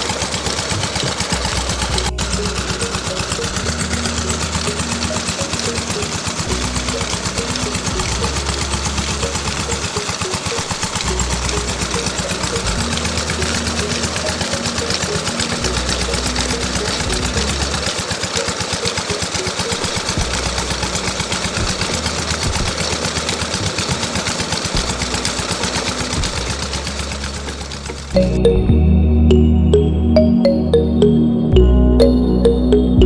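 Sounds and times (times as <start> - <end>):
small electric motor clattering: 0.0 - 28.2.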